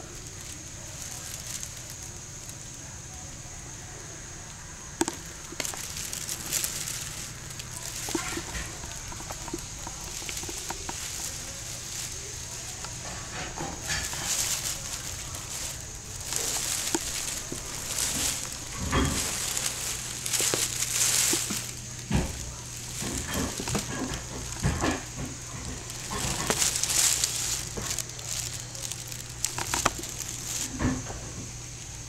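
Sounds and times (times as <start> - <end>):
plastic bag crinkling: 0.0 - 32.0
dull thumps: 4.9 - 32.0.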